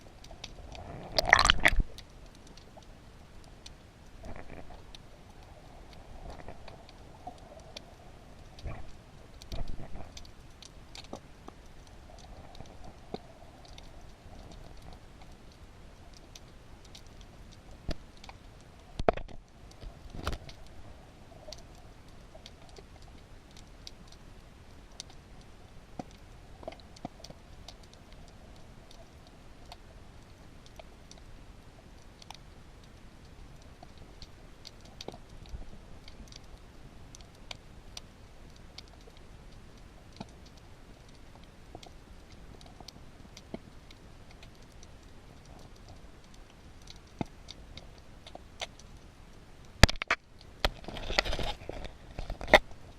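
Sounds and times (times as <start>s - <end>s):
sharp clicks and crackles: 0.1s - 31.3s, 32.0s - 52.9s.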